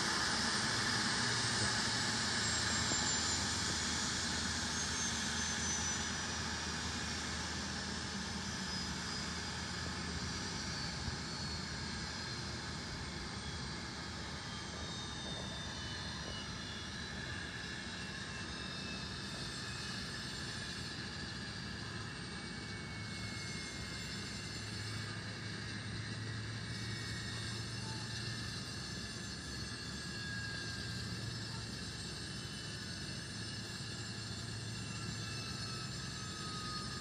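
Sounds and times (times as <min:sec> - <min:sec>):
jet engines winding down: 0:00.0 - 0:37.0.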